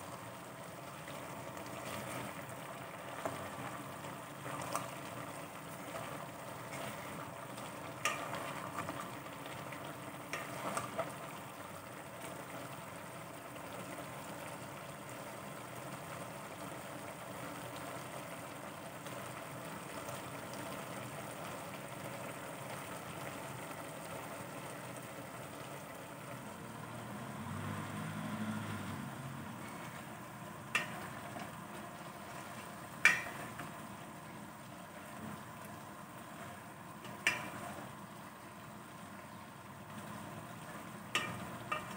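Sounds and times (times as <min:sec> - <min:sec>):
food sizzling in a pot: 0:00.0 - 0:41.9.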